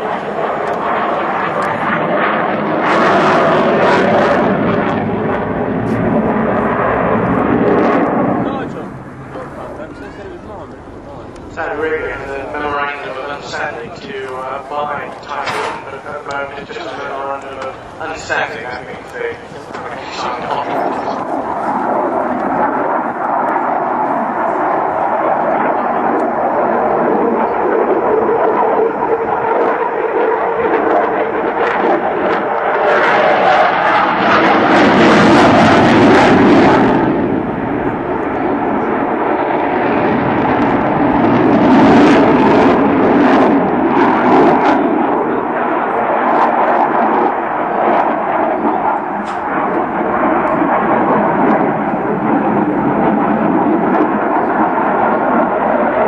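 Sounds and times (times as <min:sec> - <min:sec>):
loud jet engine noise: 0:00.0 - 0:56.0.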